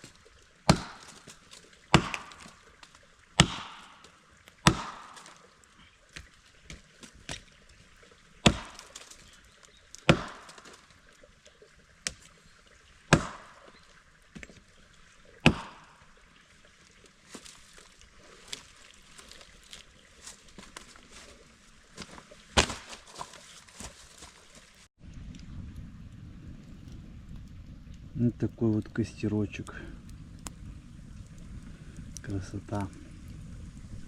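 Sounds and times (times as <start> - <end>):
firewood cracking: 0.0 - 34.0.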